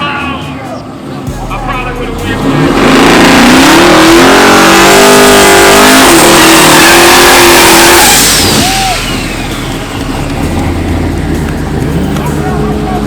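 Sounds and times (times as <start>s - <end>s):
drag racing engine accelerating: 0.9s - 13.0s.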